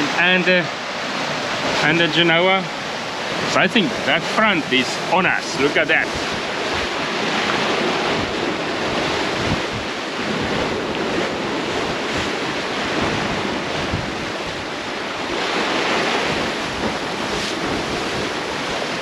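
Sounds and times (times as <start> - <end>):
choppy sea rushing: 0.0 - 19.0
white water churning: 0.0 - 19.0
wind buffeting microphone: 0.0 - 19.0.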